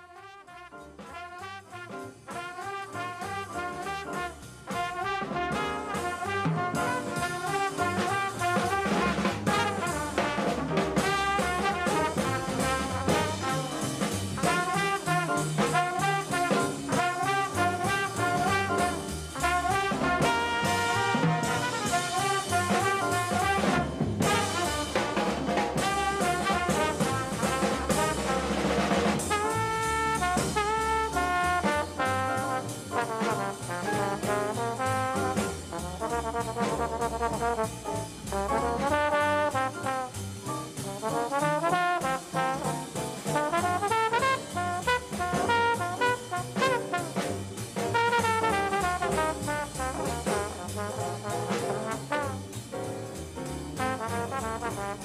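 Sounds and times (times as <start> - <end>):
drum kit: 0.0 - 55.0
trumpet: 0.0 - 55.0.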